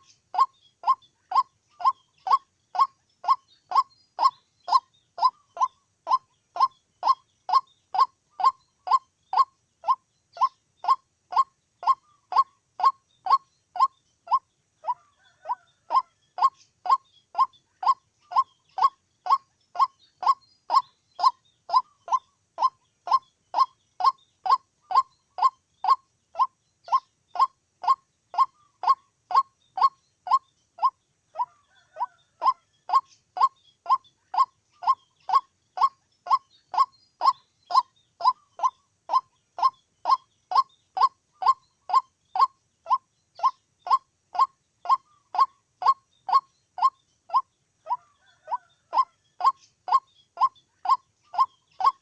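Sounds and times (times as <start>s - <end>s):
waterhen calling: 0.0s - 52.0s.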